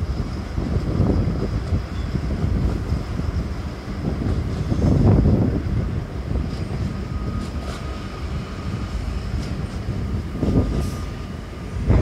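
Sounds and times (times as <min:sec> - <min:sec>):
distant trains rumbling past: 0:00.0 - 0:12.0.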